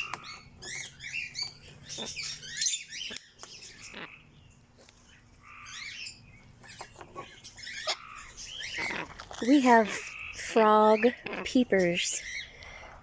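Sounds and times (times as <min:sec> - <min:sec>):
birds chirping and tweeting: 0:00.0 - 0:13.0.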